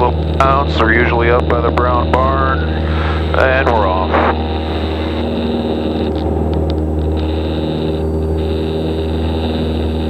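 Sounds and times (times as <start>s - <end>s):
airplane engine drone in cabin: 0.0s - 10.0s.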